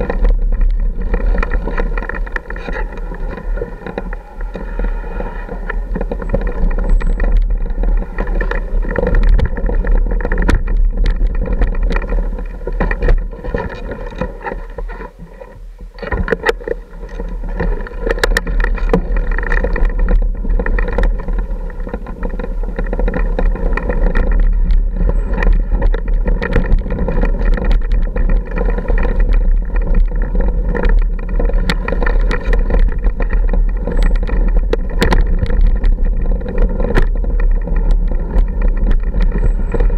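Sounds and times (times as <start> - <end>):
off-road motorcycle engine: 0.0 - 39.9
bike knocking over loose rock: 5.7 - 15.2, 16.0 - 39.9.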